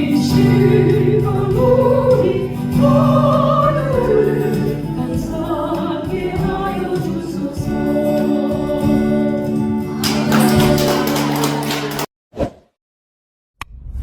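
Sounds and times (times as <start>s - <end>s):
person singing gospel song: 0.0s - 12.1s.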